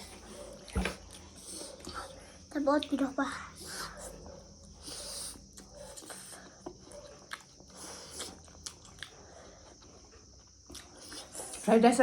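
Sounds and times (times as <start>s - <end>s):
quiet chewing and eating: 0.0s - 11.9s.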